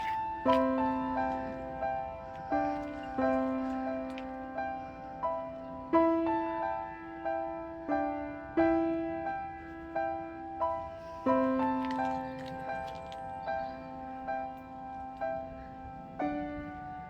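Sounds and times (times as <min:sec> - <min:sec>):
slow gentle piano melody: 0:00.0 - 0:17.0.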